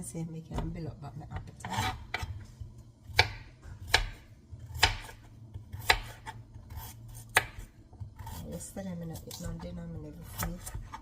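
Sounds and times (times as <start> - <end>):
knife chopping on a cutting board: 1.4 - 8.6, 9.2 - 11.0.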